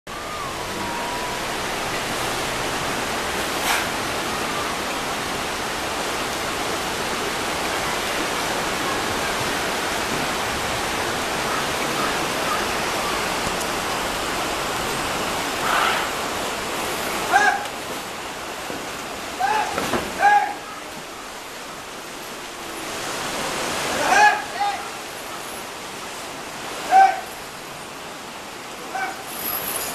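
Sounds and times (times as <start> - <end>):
river water rushing over rocks: 0.1 - 29.9.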